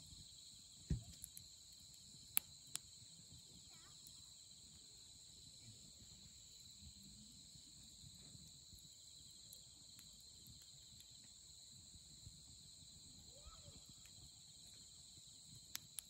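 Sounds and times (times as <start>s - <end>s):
firewood crackling: 0.0s - 16.0s
night insects singing: 0.0s - 16.0s.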